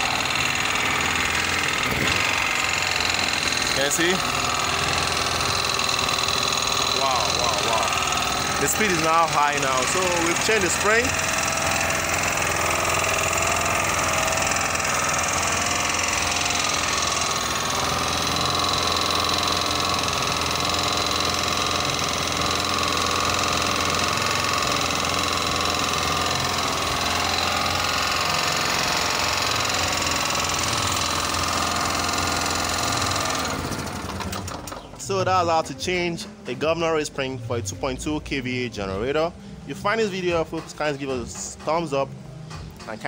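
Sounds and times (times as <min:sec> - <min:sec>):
portable generator engine running: 0:00.0 - 0:43.0.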